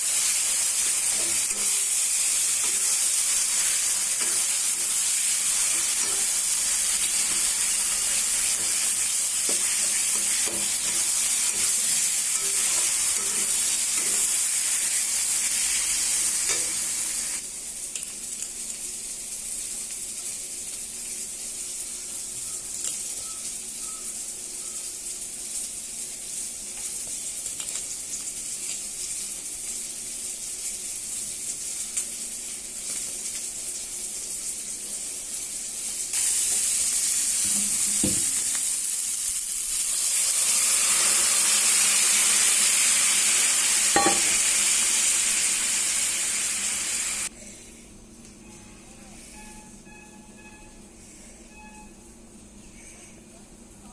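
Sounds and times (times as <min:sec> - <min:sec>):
food sizzling in a pan: 0:00.0 - 0:47.3.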